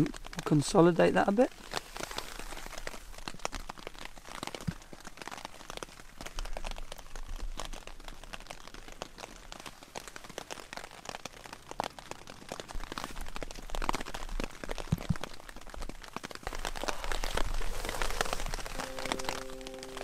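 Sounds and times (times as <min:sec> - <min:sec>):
dry grass crackling: 0:00.1 - 0:20.0.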